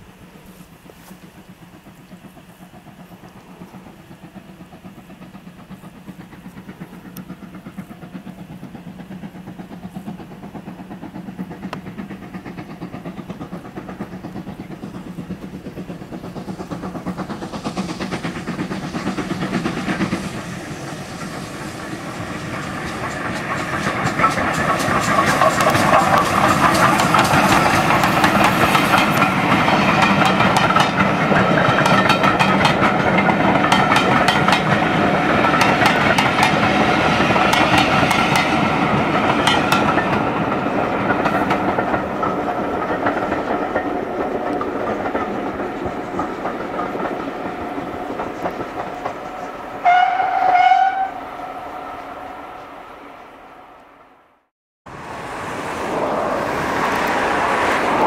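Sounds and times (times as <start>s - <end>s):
steam hiss: 0.0s - 50.0s
steam train passing: 0.0s - 58.0s
wheels clicking over rail joints: 0.2s - 51.1s.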